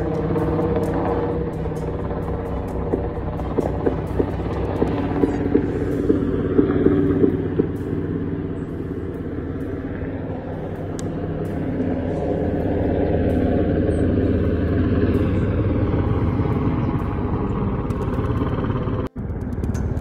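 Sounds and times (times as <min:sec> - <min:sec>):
helicopter rotor and engine drone: 0:00.0 - 0:20.0.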